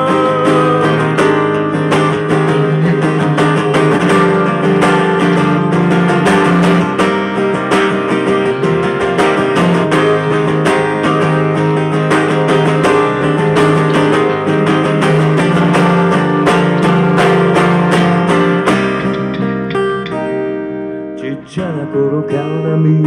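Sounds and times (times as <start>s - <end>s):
acoustic guitar strumming chords: 0.0s - 23.0s
electric plucked string instrument: 0.0s - 23.0s.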